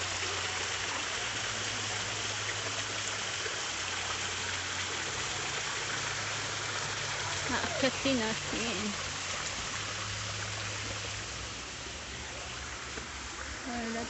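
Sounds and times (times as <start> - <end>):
waterfall splashing into pool: 0.0 - 14.0.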